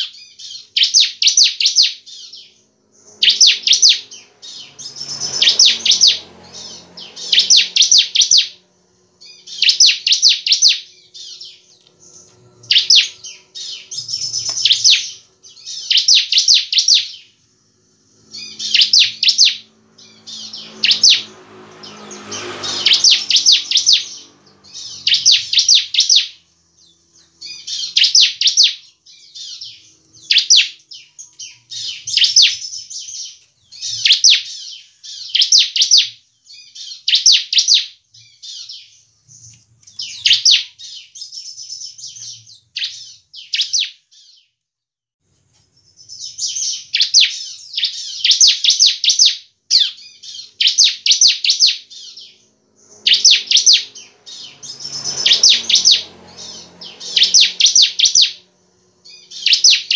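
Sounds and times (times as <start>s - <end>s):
bird chirping rapidly: 0.0s - 44.5s, 45.7s - 59.9s.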